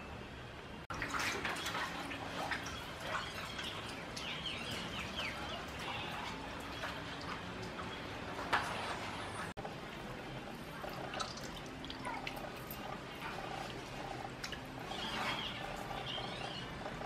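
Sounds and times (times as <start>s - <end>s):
water splashing in plastic basin: 0.9s - 9.5s, 10.7s - 15.9s.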